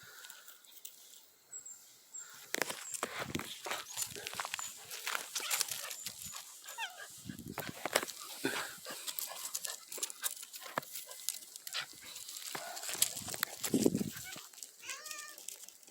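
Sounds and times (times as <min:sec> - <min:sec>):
animals scuffling: 0:02.5 - 0:15.9.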